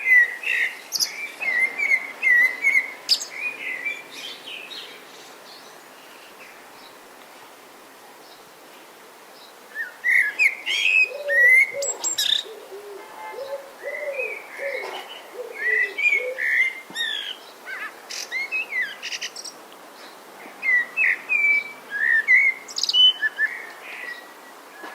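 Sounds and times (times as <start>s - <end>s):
songbirds chirping and whistling: 0.0s - 7.0s, 9.4s - 24.9s
background hiss: 0.0s - 24.9s.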